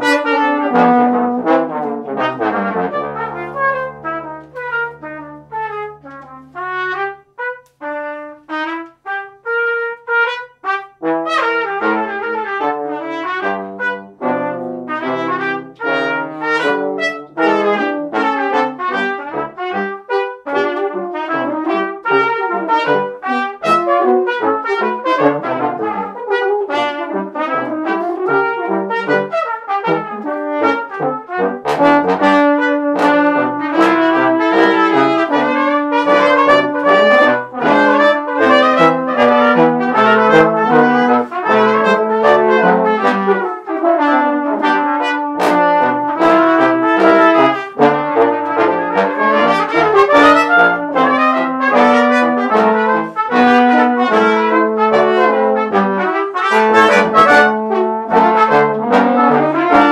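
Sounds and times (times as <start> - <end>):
brass quintet playing: 0.0 - 59.9
low trombone line: 0.0 - 59.9.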